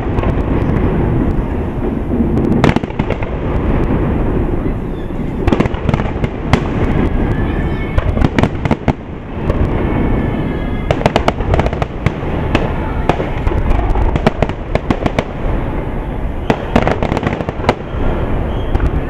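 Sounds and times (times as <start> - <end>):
continuous low rumble: 0.0 - 19.0
fireworks bangs and crackling: 0.0 - 19.0.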